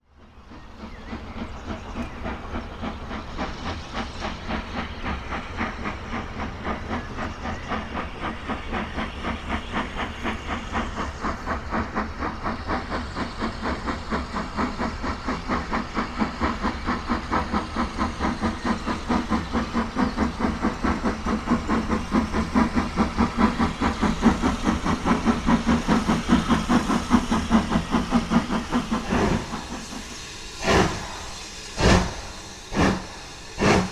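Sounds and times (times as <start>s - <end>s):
steam locomotive chuffing: 0.0s - 33.9s
steam hissing: 0.2s - 33.9s.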